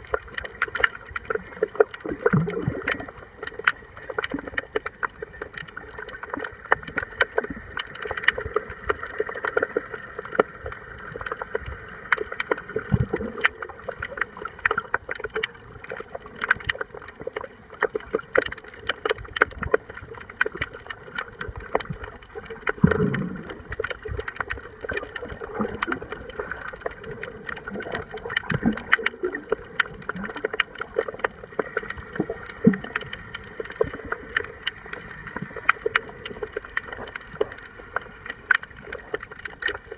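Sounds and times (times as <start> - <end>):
crackling clicks underwater: 0.0 - 39.9
low underwater thuds and gurgles: 0.0 - 39.9
underwater watery wash: 0.0 - 39.9.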